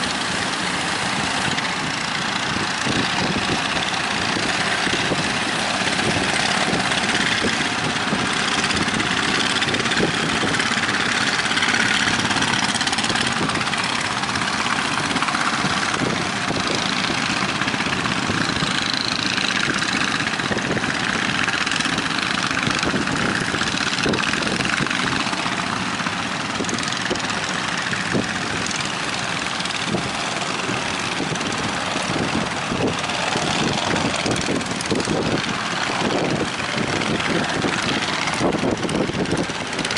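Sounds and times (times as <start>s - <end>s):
boat engine running: 0.0s - 39.9s
strong wind and waves: 0.0s - 39.9s.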